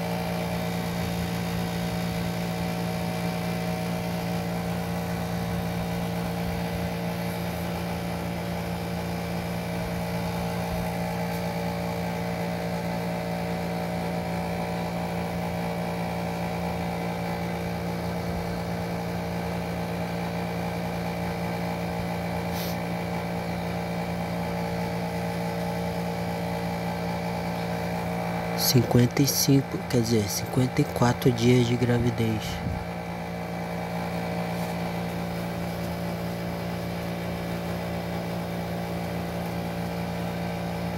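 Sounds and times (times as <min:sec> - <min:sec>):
steady motor hum: 0:00.0 - 0:40.9.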